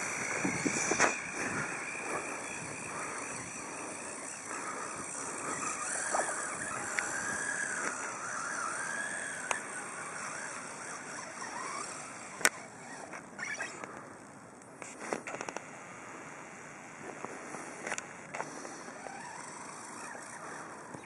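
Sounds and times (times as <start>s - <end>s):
toy car motor whining: 0.0s - 14.0s, 14.8s - 21.0s.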